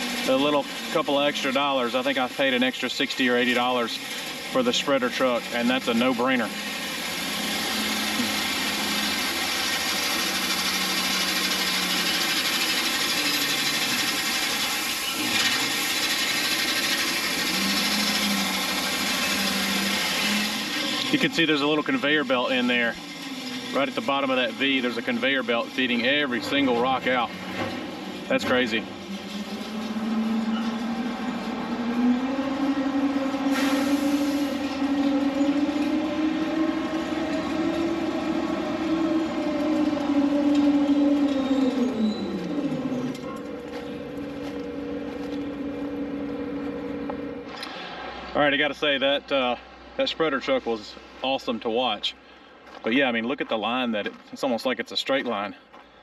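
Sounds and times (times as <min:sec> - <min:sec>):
truck engine and conveyor running: 0:00.0 - 0:56.0.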